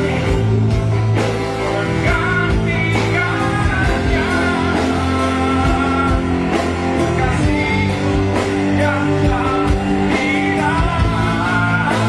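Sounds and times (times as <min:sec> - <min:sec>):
band playing slow ballad: 0:00.0 - 0:12.0
person singing: 0:00.0 - 0:12.0
sustained bass notes: 0:00.0 - 0:12.0.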